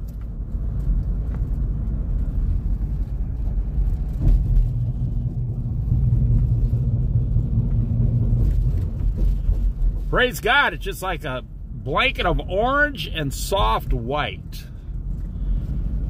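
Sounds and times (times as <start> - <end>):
car cabin tyre and engine rumble: 0.0 - 16.0.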